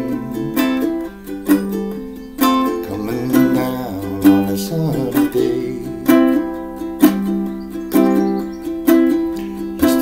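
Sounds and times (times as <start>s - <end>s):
ukulele strumming: 0.0s - 10.0s.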